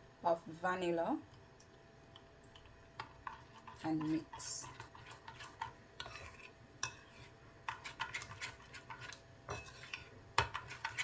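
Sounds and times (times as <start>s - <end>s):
soft wet mixing: 0.5s - 11.0s.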